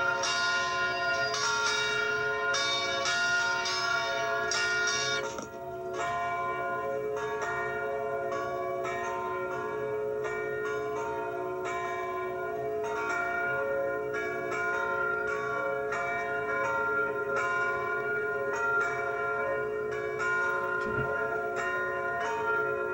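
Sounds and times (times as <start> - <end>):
church bells ringing: 0.0 - 22.9.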